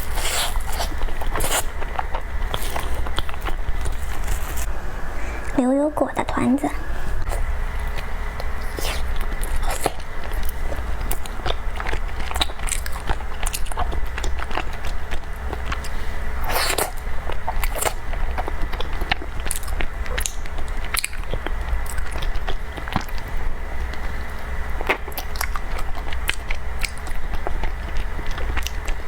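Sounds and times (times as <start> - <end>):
wet chewing and mouth smacking: 0.0 - 4.7, 7.2 - 29.0.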